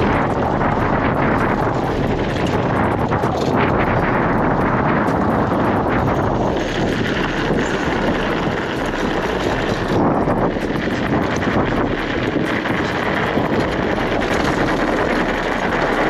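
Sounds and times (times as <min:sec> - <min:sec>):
bicycle tyres rolling on gravel: 0:00.0 - 0:16.0
stones and bike rattling: 0:00.0 - 0:16.0
wind buffeting microphone: 0:00.0 - 0:16.0.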